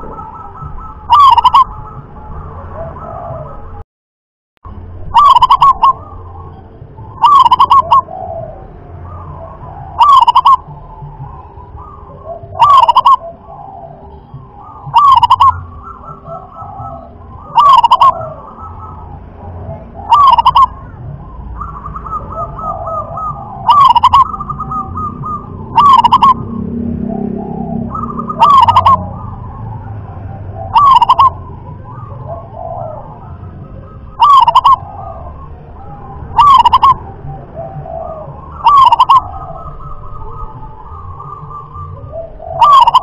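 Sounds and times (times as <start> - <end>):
dove cooing: 0.0 - 3.8, 5.1 - 43.0.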